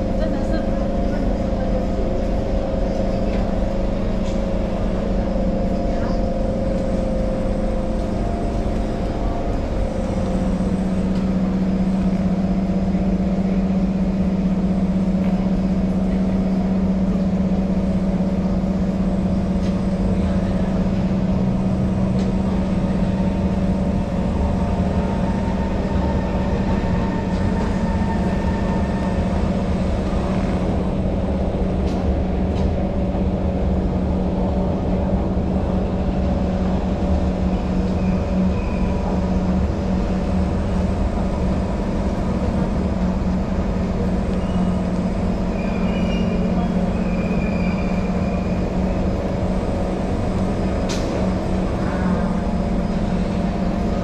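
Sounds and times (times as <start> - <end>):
train running and slowing: 0.0 - 54.0.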